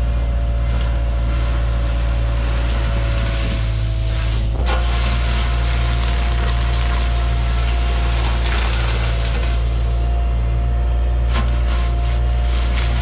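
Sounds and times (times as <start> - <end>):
diesel engine with high whine: 0.0 - 13.0
bucket scraping through gravel: 1.1 - 10.1, 11.3 - 13.0.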